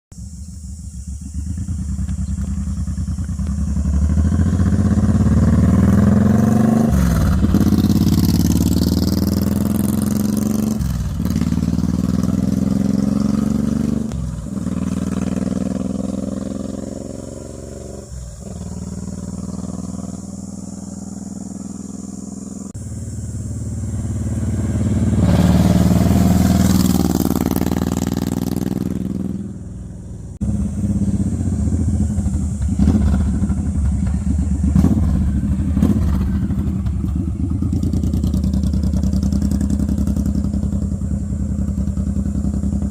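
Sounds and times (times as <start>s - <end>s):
cicadas buzzing: 0.1s - 42.9s
motorcycle engine shifting gears: 1.0s - 42.9s.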